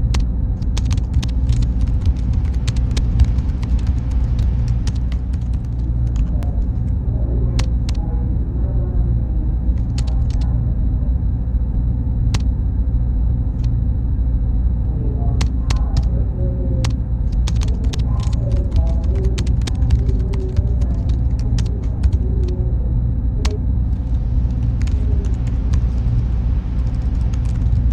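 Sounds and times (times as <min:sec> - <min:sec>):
faint high whine: 0:00.0 - 0:27.9
machine fans humming: 0:00.0 - 0:27.9.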